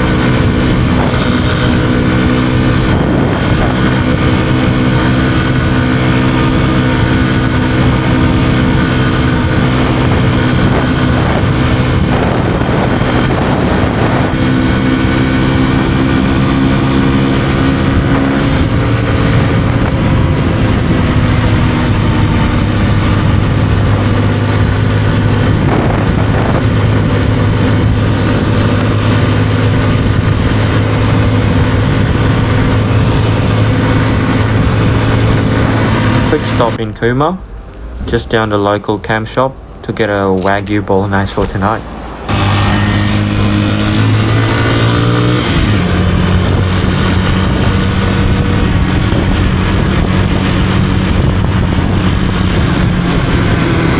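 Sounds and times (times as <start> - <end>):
motorcycle engine running: 0.0 - 36.8, 42.0 - 53.9.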